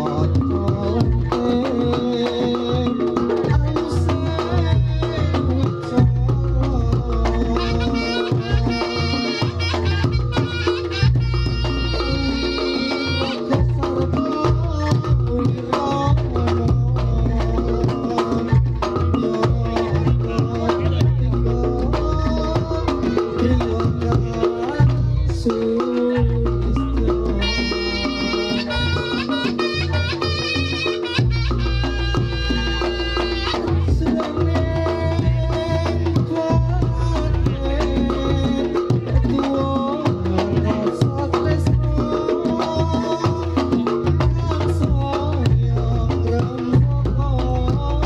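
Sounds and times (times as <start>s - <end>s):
drum strokes: 0.0s - 48.0s
held gamelan melody: 0.0s - 48.0s.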